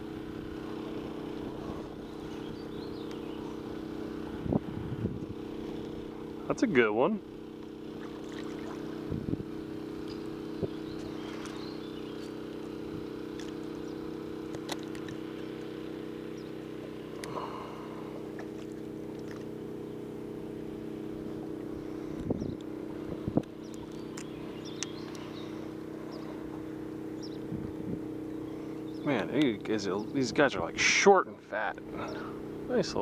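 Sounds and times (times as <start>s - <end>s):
electric trolling motor humming: 0.0s - 33.0s.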